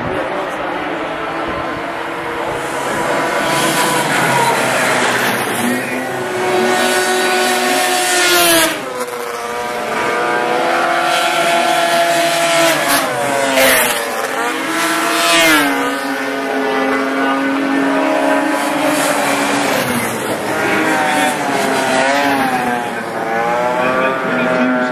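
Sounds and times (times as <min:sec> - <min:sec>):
snowmobile engines running hard: 0:00.0 - 0:24.9.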